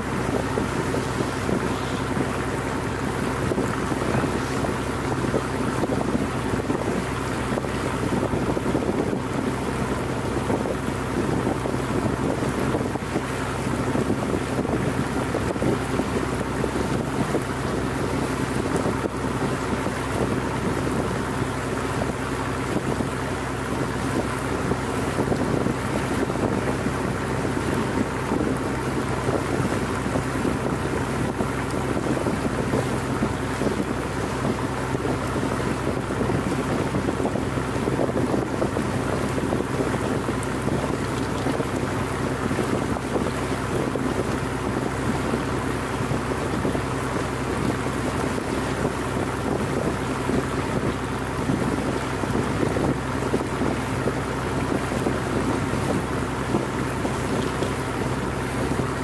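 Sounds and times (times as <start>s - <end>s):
boat engine running: 0.0s - 59.0s
water noise: 0.0s - 59.0s
wind noise on microphone: 0.0s - 59.0s.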